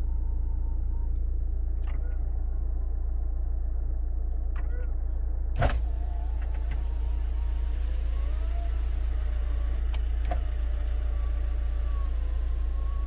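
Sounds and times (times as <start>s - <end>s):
car low rumble: 0.0s - 13.0s
faint wavering whine: 0.0s - 13.0s.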